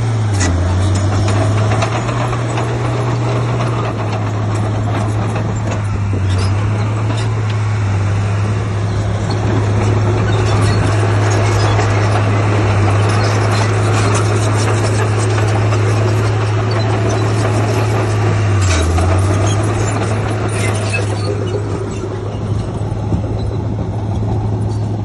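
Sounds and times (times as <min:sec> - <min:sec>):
diesel engine droning: 0:00.0 - 0:25.0
mechanical clatter: 0:00.3 - 0:07.6, 0:09.0 - 0:25.0.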